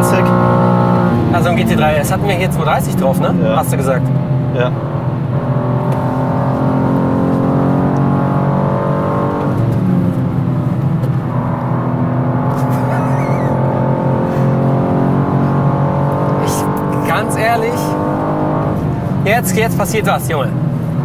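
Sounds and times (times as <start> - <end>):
car engine pulling hard: 0.0 - 21.0.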